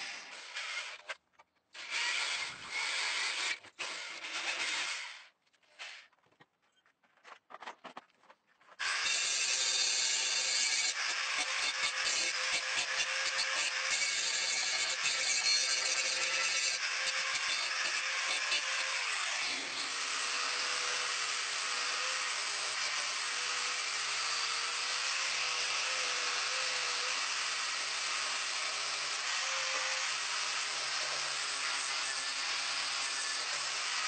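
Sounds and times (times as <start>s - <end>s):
small power tool whirring: 0.0s - 1.2s, 1.8s - 5.3s, 8.8s - 34.0s.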